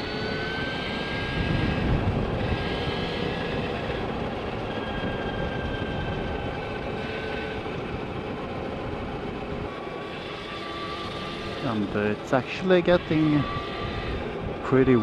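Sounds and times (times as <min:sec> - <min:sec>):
wind rushing over microphone: 0:00.0 - 0:09.8, 0:11.0 - 0:15.0
electric motor whine: 0:00.0 - 0:15.0.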